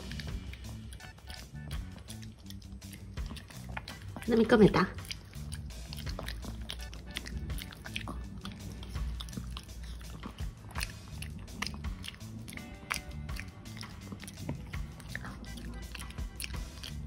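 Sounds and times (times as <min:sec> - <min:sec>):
dog wet mouth clicks: 0:00.0 - 0:17.0
soft background music: 0:00.0 - 0:17.0.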